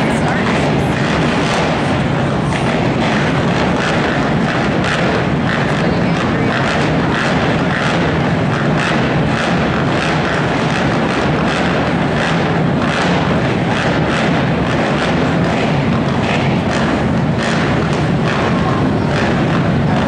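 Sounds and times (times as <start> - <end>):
atv engines idling and revving: 0.0 - 20.0.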